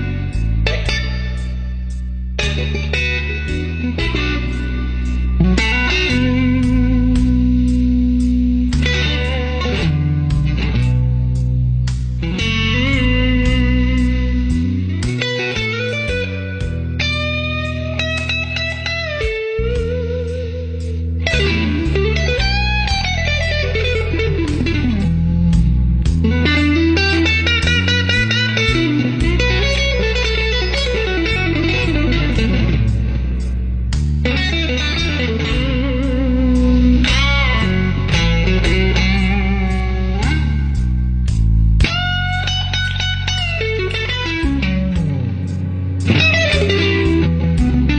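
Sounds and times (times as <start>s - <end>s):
bass line: 0.0s - 47.9s
electric guitar lead melody: 0.0s - 47.9s.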